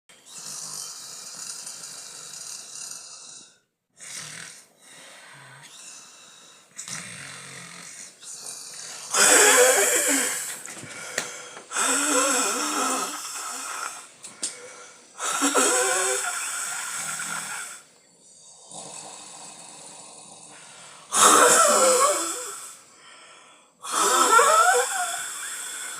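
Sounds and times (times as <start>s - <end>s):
person snoring: 0.2s - 25.9s.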